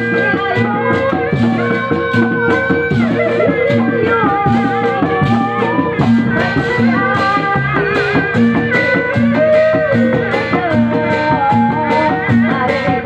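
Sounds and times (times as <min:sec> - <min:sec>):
repeating drum pattern: 0:00.0 - 0:13.0
wavering held melody: 0:00.0 - 0:13.0.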